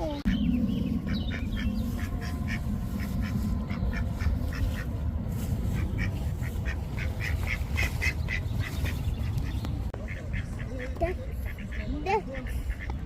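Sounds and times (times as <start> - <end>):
steady low rumble: 0.0 - 13.0
ducks quacking: 0.9 - 13.0.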